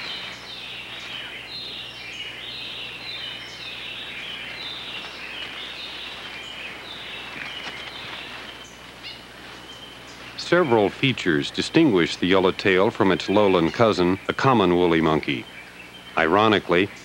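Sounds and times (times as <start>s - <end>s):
chorus of high-pitched calls: 0.0s - 17.0s
faint low hum: 0.0s - 17.0s.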